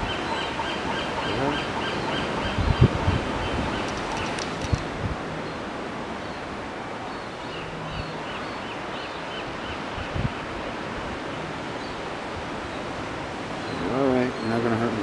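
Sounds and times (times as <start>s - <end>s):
sea surf: 0.0s - 15.0s
wind noise: 0.0s - 15.0s.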